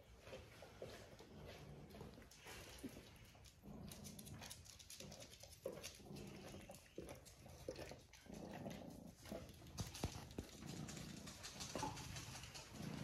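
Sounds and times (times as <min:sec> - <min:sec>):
cat licking fur: 0:00.2 - 0:12.8.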